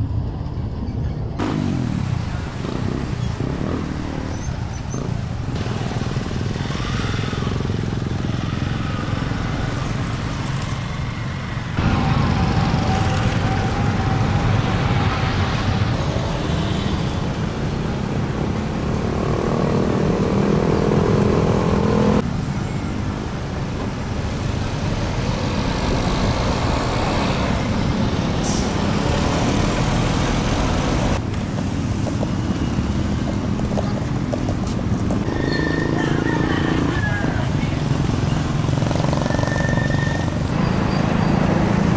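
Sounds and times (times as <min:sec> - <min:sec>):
motorcycles passing: 0:01.4 - 0:41.9.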